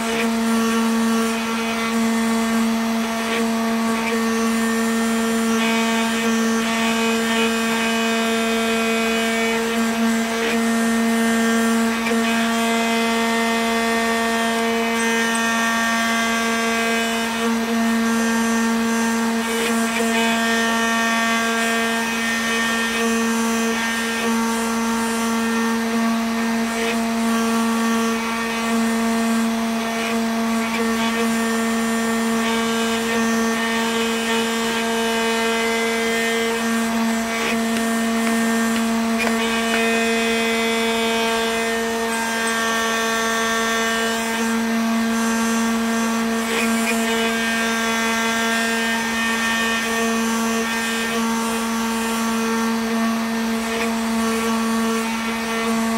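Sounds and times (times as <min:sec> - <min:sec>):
router spindle motor hum: 0:00.0 - 0:55.9.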